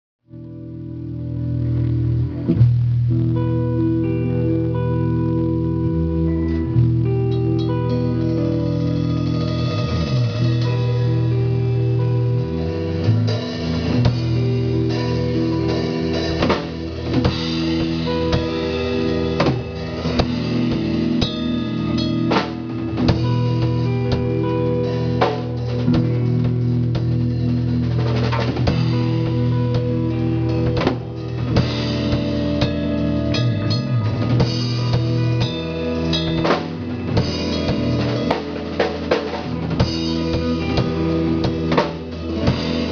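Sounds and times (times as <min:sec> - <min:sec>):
band music over loudspeakers: 0:00.4 - 0:42.9.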